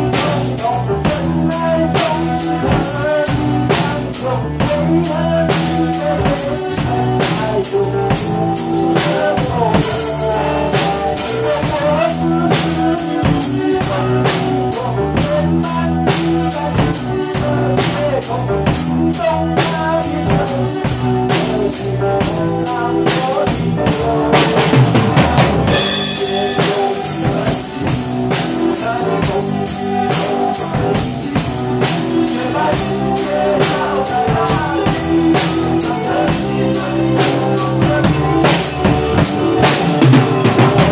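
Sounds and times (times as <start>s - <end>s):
drum kit beat: 0.0s - 40.9s
pop ballad backing track: 0.0s - 40.9s.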